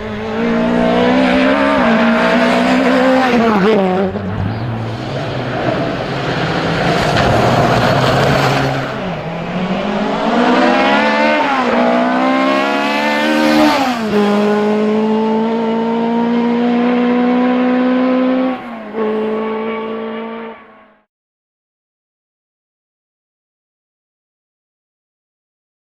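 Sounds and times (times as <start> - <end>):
rally car engine accelerating: 0.0 - 21.1.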